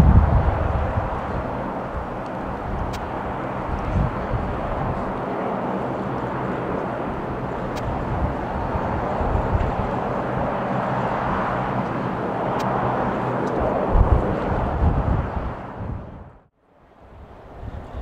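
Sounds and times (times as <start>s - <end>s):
jet airliner taking off: 0.0s - 16.4s
wind buffeting microphone: 0.0s - 18.0s.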